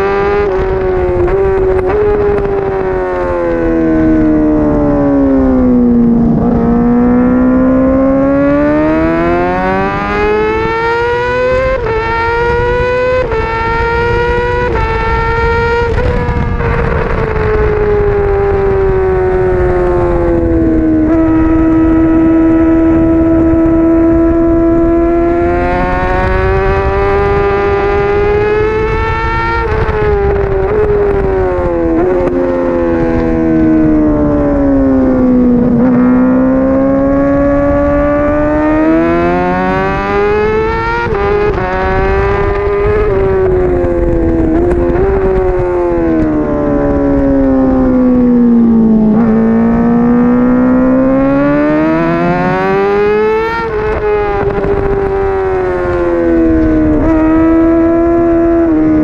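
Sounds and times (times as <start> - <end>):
motorcycle engine racing: 0.0 - 59.0.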